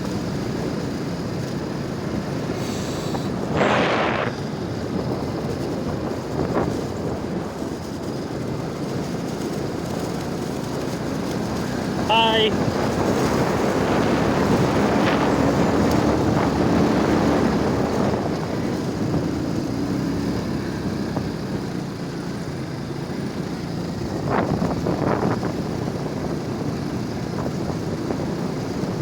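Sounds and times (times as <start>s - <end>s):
wind on microphone: 0.0s - 22.0s, 23.9s - 29.0s
motorcycle engine running: 0.0s - 29.0s.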